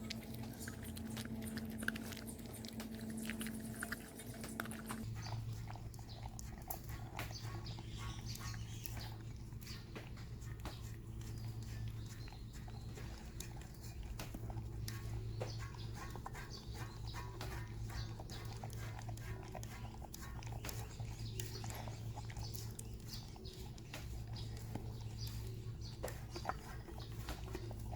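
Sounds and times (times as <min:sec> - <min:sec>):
dogs crunching kibble: 0:00.0 - 0:27.9
dogs licking bowls: 0:00.0 - 0:27.9
steady low hum: 0:00.0 - 0:27.9.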